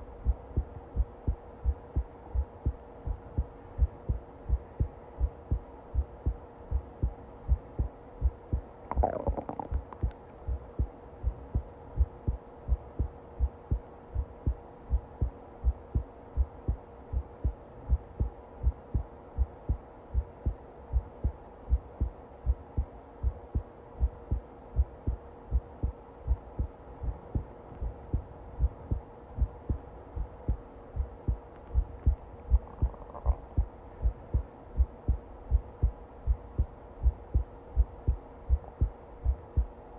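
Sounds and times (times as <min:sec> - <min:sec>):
constant hum: 0:00.0 - 0:39.9
heartbeat thumps: 0:00.2 - 0:39.7.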